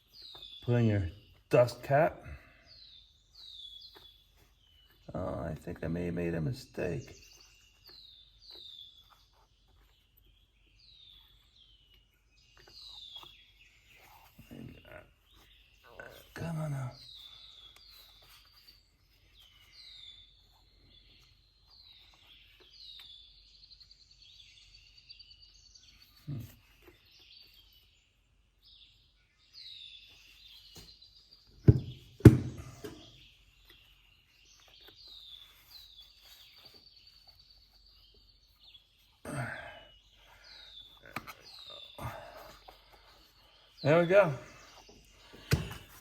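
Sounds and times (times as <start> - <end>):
small bird chirping: 0.0 - 46.0.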